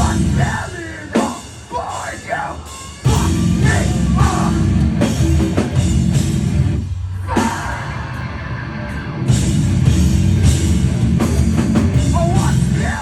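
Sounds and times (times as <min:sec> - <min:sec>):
distorted guitars: 0:00.0 - 0:13.0
heavy drums: 0:00.0 - 0:13.0
heavy metal band playing: 0:00.0 - 0:13.0.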